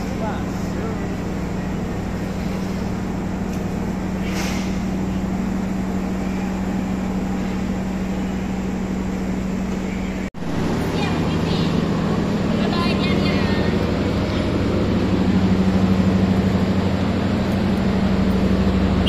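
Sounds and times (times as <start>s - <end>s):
diesel train idling: 0.0s - 19.0s.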